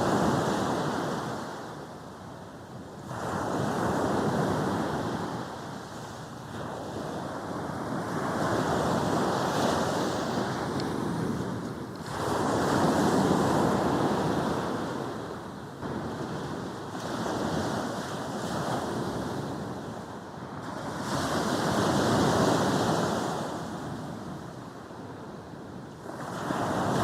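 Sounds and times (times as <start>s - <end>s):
sea waves breaking on a beach: 0.0s - 27.0s.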